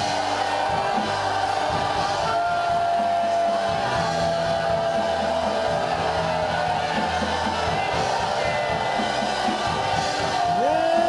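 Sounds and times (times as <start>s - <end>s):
congregation praying aloud: 0.0s - 11.0s
slow worship music: 0.0s - 11.0s.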